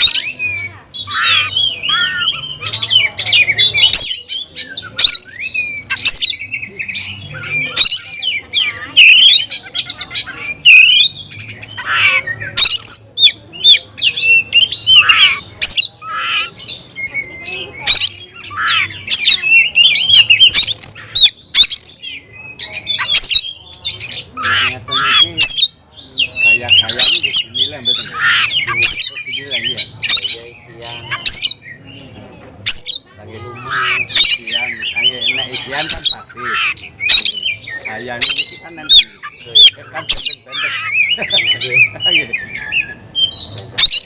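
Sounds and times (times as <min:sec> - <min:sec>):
bird singing whistles and squawks: 0:00.0 - 0:44.0.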